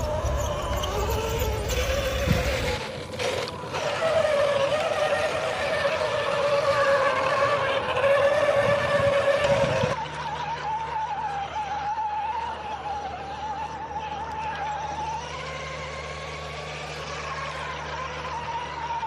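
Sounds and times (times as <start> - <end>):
water and tyres washing: 0.0 - 13.6, 14.2 - 19.0
toy truck motor whining: 0.0 - 19.0.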